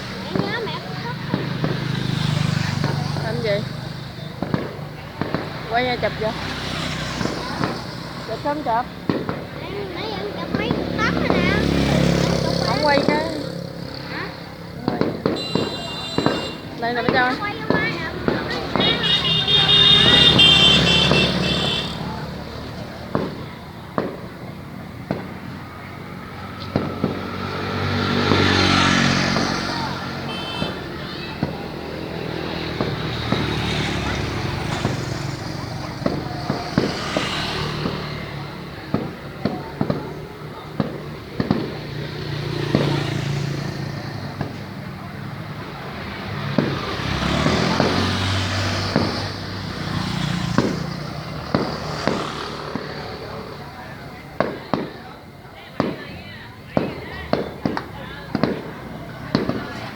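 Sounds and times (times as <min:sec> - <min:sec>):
engine passing by: 0:00.0 - 0:59.9
firework bangs: 0:00.0 - 0:59.9
road traffic rumble: 0:00.0 - 0:59.9.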